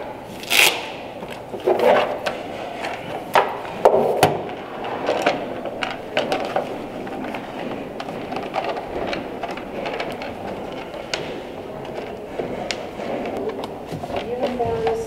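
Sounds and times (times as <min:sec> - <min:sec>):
equipment handling knocks and clicks: 0:01.2 - 0:15.0.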